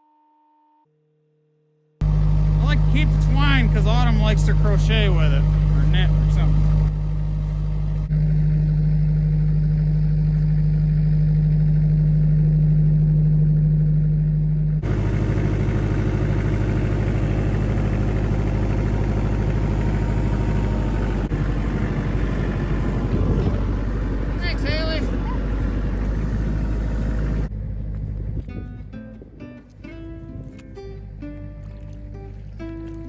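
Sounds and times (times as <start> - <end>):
vehicle engine running: 2.0 - 33.0.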